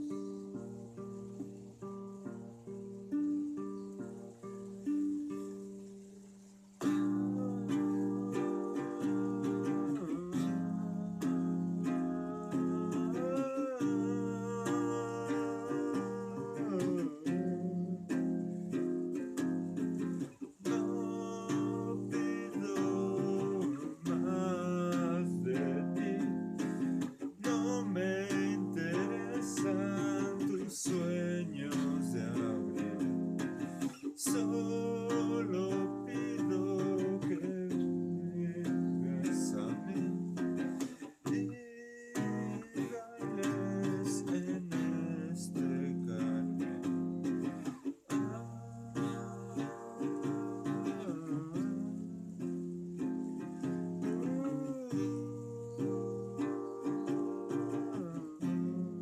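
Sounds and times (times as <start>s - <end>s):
acoustic guitar music: 0.0s - 59.0s.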